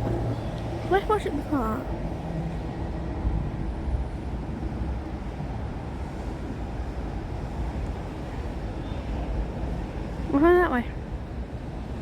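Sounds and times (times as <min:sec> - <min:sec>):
electric train hum: 0:00.0 - 0:12.0
passing traffic: 0:00.0 - 0:12.0.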